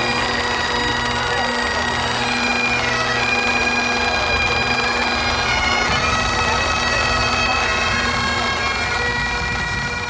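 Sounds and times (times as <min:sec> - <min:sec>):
bagpipes playing a tune: 0:00.0 - 0:10.0.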